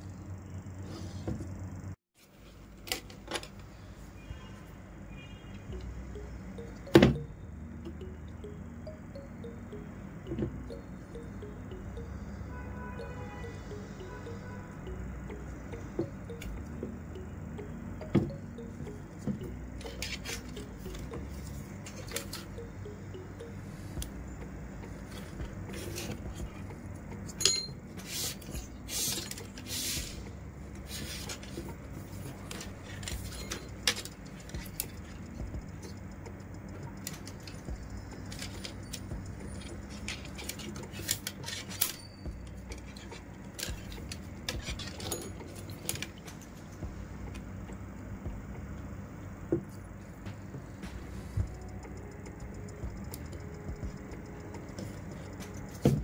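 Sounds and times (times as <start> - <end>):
steady low hum: 5.6 - 56.0.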